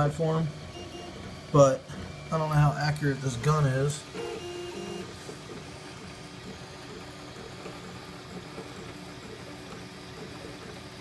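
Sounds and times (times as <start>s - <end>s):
stepper motors whining: 0.0s - 10.8s.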